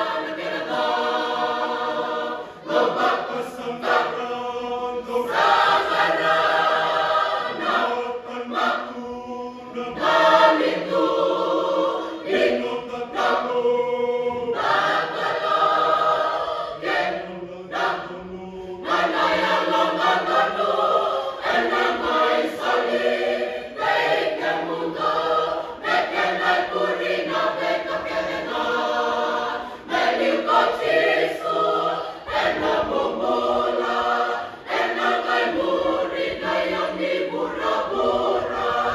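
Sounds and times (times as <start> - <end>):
choir singing a hymn unaccompanied: 0.0 - 38.9.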